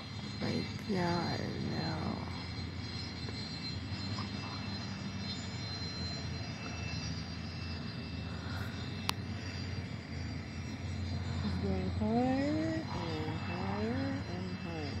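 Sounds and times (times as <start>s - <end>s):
faint high hum: 0.0s - 15.0s
low background rumble: 0.0s - 15.0s.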